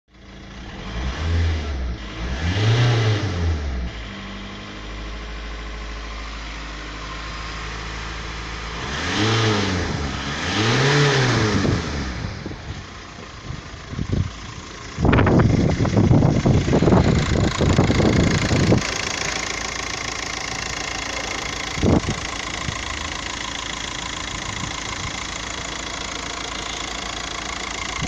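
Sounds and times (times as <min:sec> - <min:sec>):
car engine revving and idling: 0:00.1 - 0:28.0.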